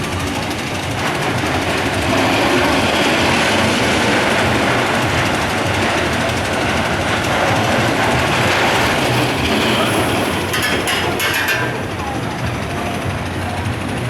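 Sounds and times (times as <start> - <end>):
roller coaster wheels rumbling: 0.0 - 14.0
sharp clicks and rattles: 0.0 - 14.0.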